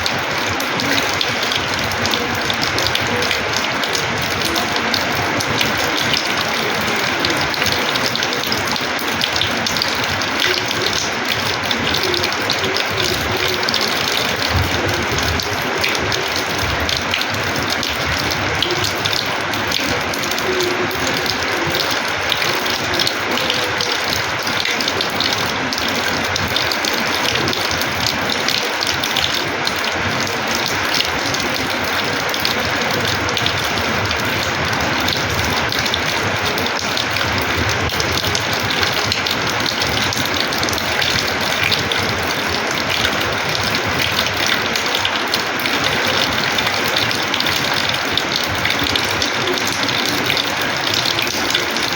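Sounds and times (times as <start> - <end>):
rain splashing on floor: 0.0 - 51.9.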